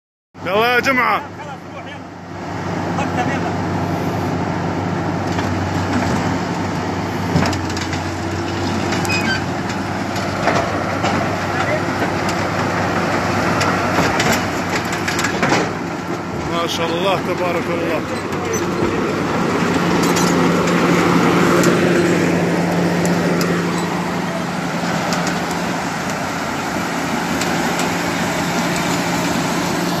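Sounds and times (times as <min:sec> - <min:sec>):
diesel engine running: 0:00.4 - 0:30.0.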